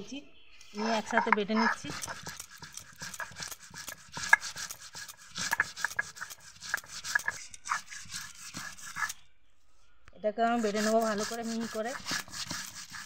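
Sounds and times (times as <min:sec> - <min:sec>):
stone roller grinding seeds: 0:00.7 - 0:09.2, 0:10.5 - 0:13.0.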